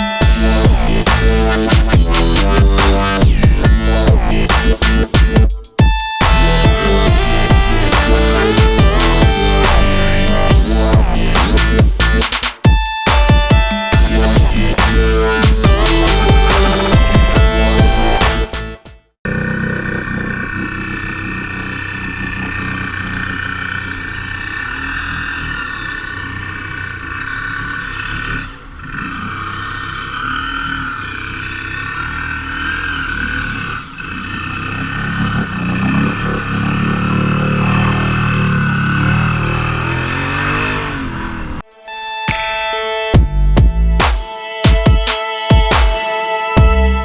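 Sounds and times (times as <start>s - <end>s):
off-road vehicle engine running: 0.0s - 41.6s.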